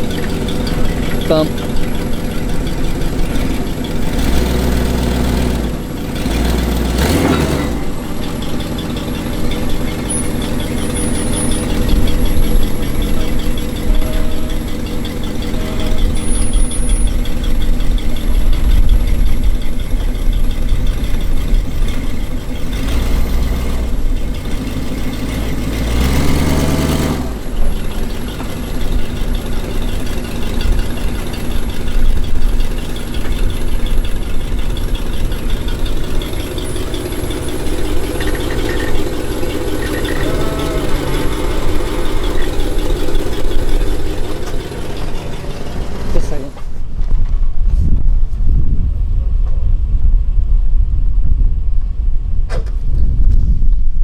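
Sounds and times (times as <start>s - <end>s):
engine revving: 0.0s - 46.8s.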